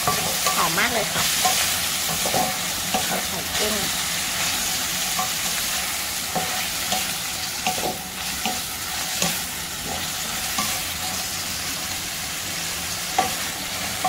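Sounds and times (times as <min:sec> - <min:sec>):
shrimp sizzling in hot oil: 0:00.0 - 0:14.0
wooden spatula scraping wok: 0:00.0 - 0:14.0.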